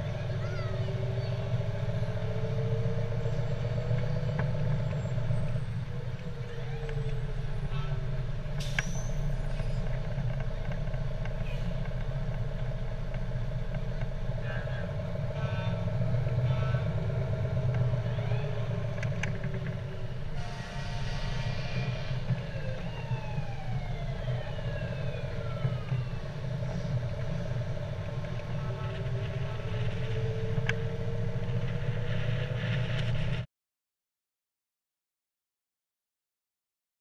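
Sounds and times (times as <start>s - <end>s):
fire truck engines rumbling: 0.0s - 33.5s.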